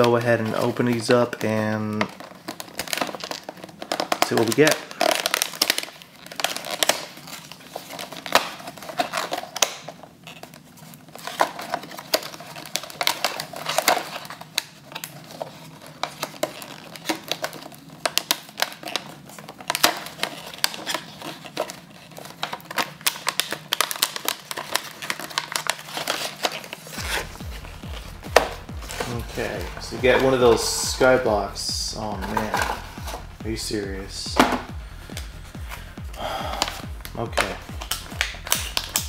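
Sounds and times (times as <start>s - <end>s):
cardboard box and cards handled: 0.0s - 35.9s, 36.6s - 39.0s.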